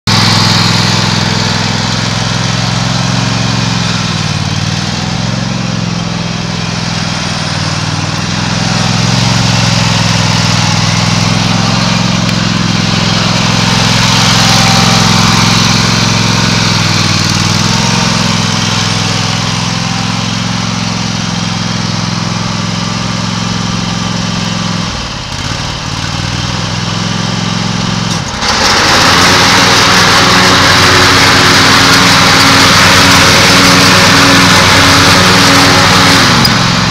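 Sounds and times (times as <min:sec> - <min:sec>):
riding mower engine running: 0:00.0 - 0:36.9.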